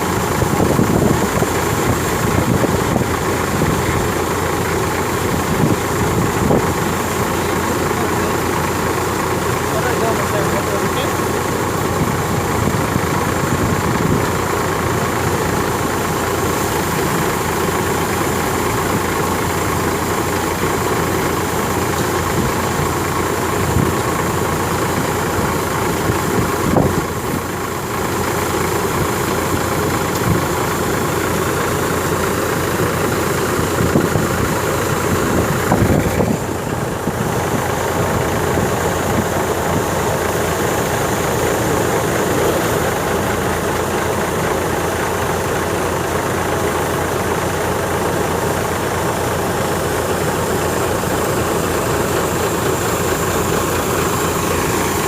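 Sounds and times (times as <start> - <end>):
tractor engine and thresher running: 0.0 - 55.0.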